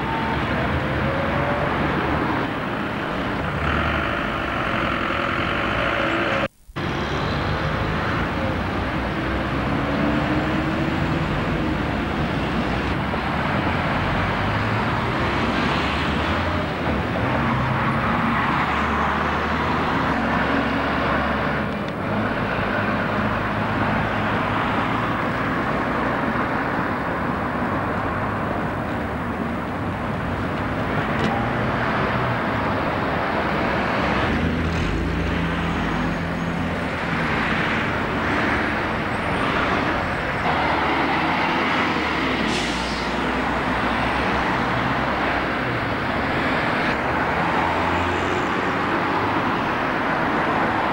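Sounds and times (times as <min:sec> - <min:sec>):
bus diesel engines passing: 0:00.0 - 0:50.9
street traffic: 0:00.0 - 0:50.9.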